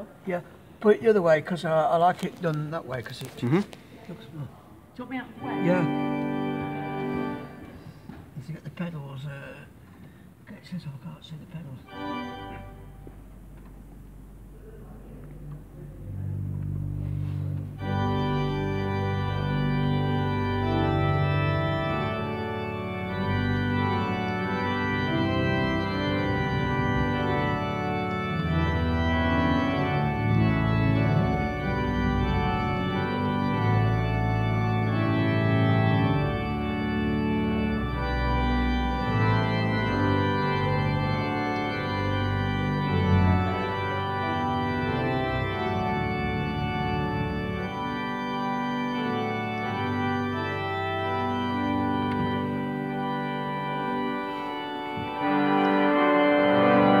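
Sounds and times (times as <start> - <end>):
church organ playing chords: 5.1 - 8.3, 11.5 - 57.0.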